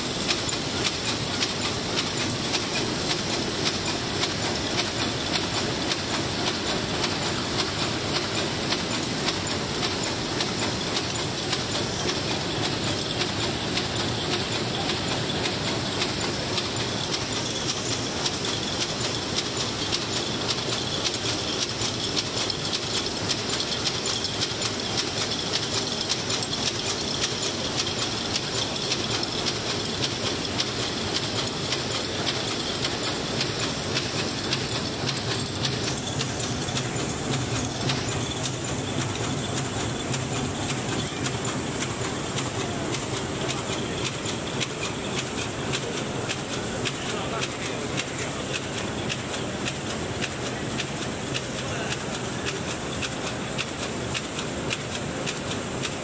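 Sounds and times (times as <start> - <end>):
machine mechanical clatter: 0.0 - 56.0.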